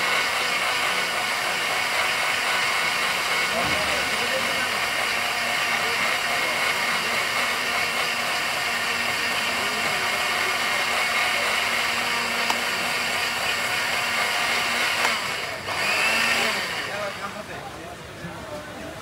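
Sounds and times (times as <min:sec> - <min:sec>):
blender motor whirring: 0:00.0 - 0:17.4.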